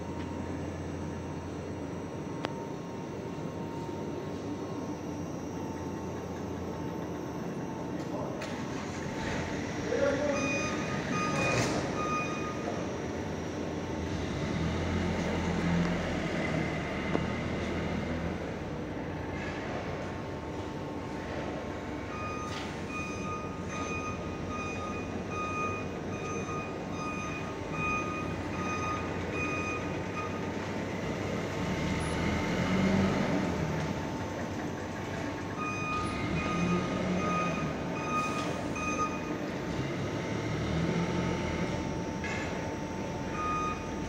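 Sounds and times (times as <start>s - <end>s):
printing machine running: 0.0s - 22.7s, 26.7s - 44.0s.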